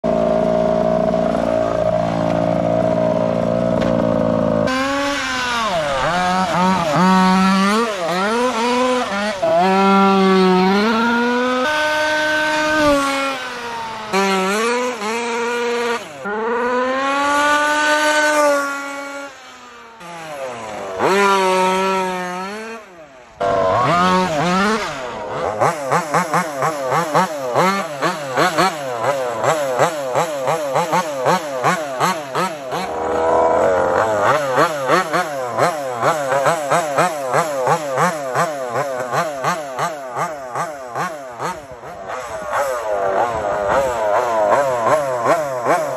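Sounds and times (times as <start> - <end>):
engine throttle blipped rapidly: 0.0 - 45.9
two-stroke engine revving: 0.0 - 45.9.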